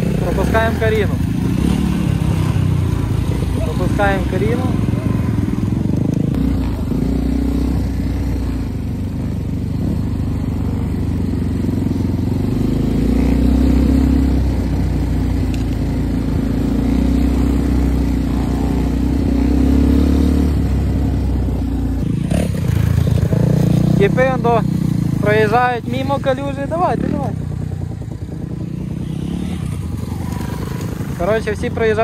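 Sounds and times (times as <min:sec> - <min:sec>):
dirt bike engines running: 0:00.0 - 0:32.0.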